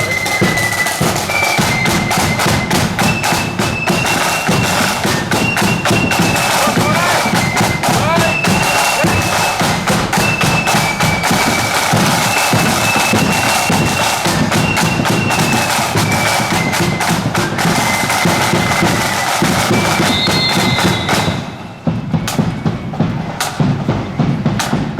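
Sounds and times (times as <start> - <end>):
shrill high flutes: 0.0 - 23.6
side drums and bass drum march: 0.0 - 24.9.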